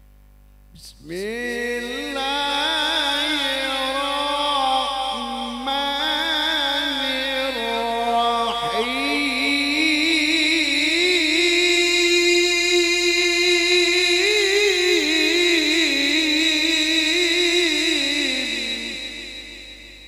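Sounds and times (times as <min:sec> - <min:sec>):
man chanting into a microphone: 0:00.7 - 0:20.0.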